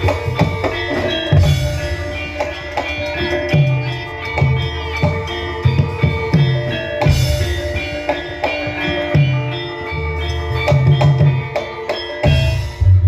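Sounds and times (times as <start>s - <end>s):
gongs: 0.0s - 13.0s
ringing metal keyed instruments: 0.0s - 13.0s.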